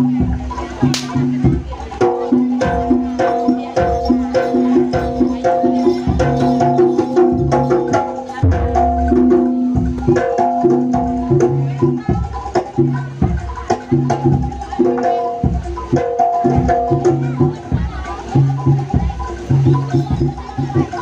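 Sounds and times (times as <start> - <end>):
repeating pitched metal tones: 0.0 - 10.9, 11.6 - 21.0
fast sharp drum strikes: 0.0 - 21.0.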